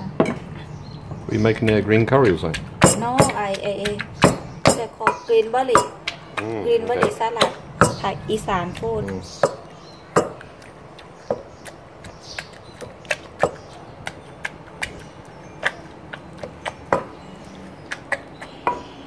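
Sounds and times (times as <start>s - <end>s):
wooden pestle pounding in mortar: 0.1s - 19.0s.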